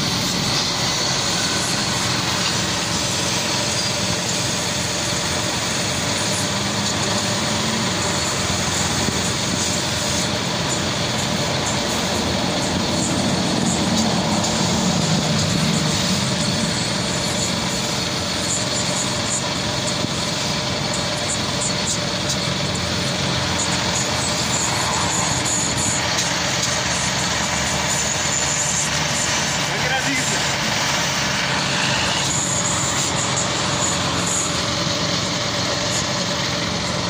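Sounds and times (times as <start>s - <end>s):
small petrol engine running: 0.0s - 37.0s.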